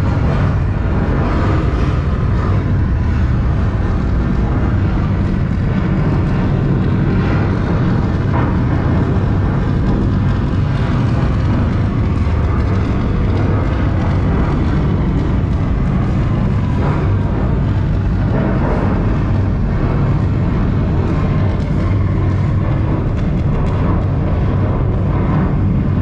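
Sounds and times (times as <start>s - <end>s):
low rumbling roar: 0.0s - 26.0s.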